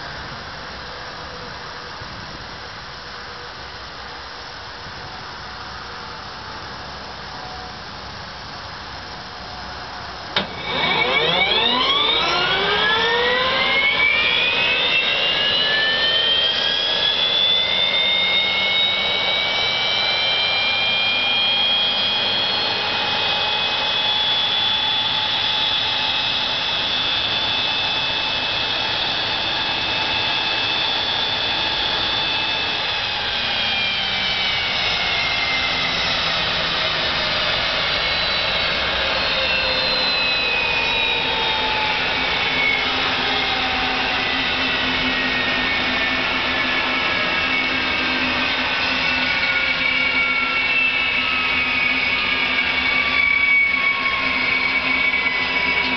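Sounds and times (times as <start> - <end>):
turbofan engine whine: 0.0 - 55.9.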